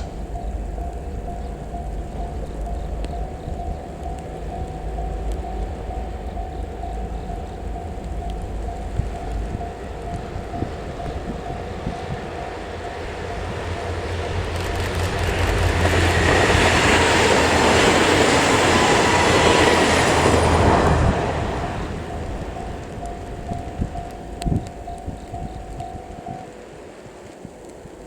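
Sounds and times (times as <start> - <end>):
diesel railcar passing: 0.0 - 28.0.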